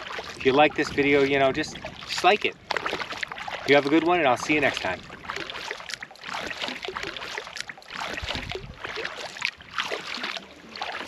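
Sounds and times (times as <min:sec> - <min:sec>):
canoe paddle swishing in water: 0:00.0 - 0:11.0
water splashes and drips: 0:00.0 - 0:11.0.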